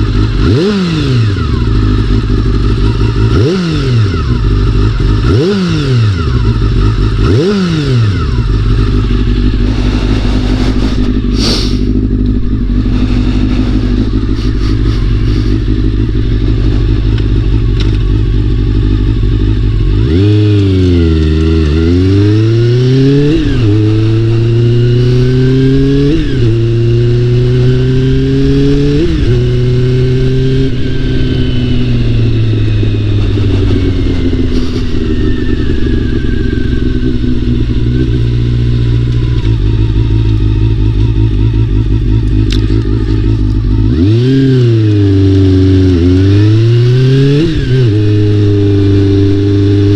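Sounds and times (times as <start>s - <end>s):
motorcycle engine shifting gears: 0.0s - 49.9s.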